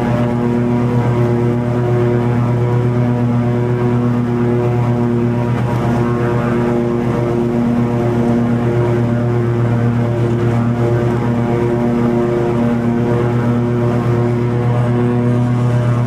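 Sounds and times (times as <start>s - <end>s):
mower blades cutting grass: 0.0s - 16.0s
mower engine running: 0.0s - 16.0s.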